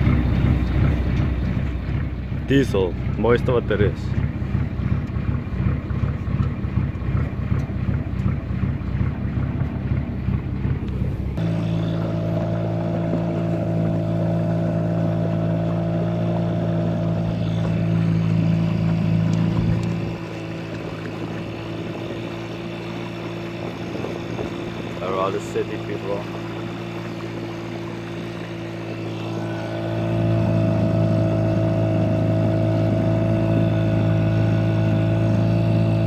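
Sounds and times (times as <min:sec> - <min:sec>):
boat diesel engine running: 0:00.0 - 0:36.0.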